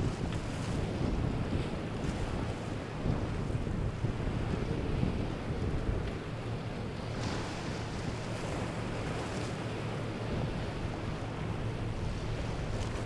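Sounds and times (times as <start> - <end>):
boat engines droning: 0.0 - 13.0
wind buffeting microphone: 0.0 - 13.0.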